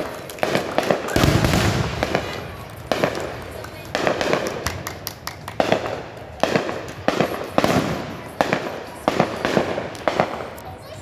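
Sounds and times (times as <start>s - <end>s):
fireworks bangs: 0.0s - 11.0s
fireworks crackle and rumble: 0.0s - 11.0s.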